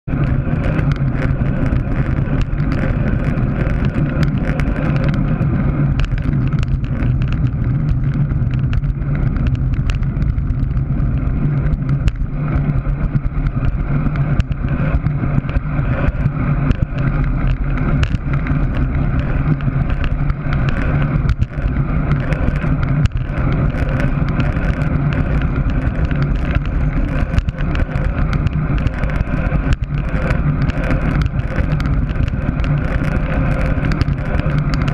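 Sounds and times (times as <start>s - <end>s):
road noise: 0.0s - 34.9s
wind on microphone: 0.0s - 34.9s.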